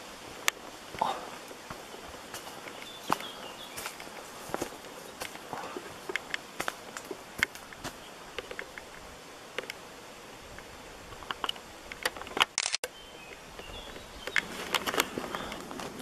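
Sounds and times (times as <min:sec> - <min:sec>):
footsteps on outdoor path: 0:00.0 - 0:10.8, 0:13.2 - 0:16.0.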